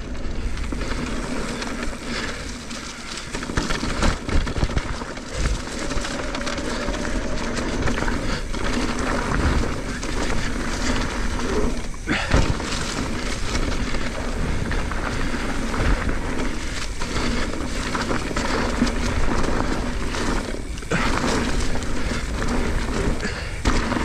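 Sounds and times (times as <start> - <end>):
bike rattling: 0.0 - 24.0
bike tyres on dirt: 0.0 - 24.0.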